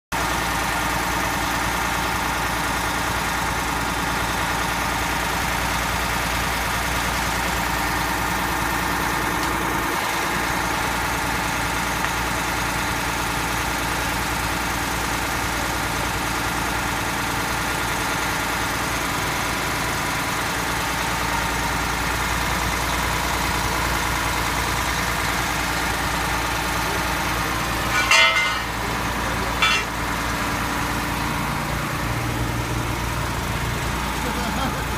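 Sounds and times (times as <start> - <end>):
fire engine idling: 0.1 - 34.9.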